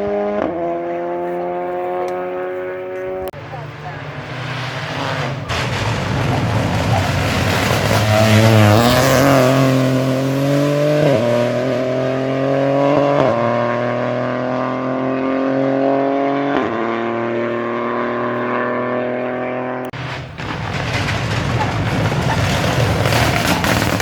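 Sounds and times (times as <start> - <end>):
rally car engine accelerating: 0.0 - 24.0.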